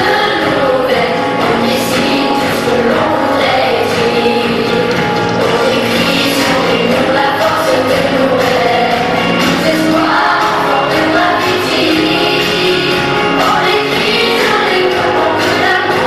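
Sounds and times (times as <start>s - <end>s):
boys choir singing: 0.0s - 16.0s.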